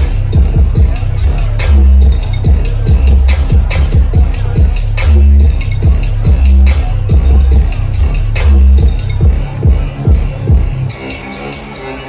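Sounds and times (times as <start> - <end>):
bass-heavy electronic dance music: 0.0 - 12.0.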